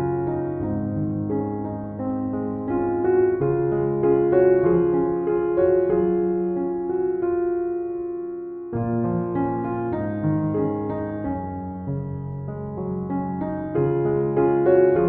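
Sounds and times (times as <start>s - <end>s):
soft slow piano: 0.0s - 15.0s.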